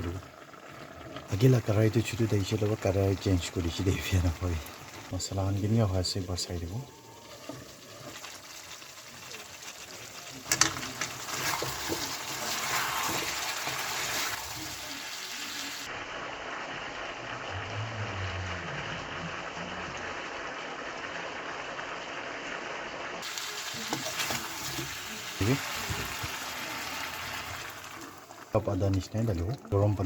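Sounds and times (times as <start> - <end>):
water hissing in a hot pan: 0.0 - 28.6.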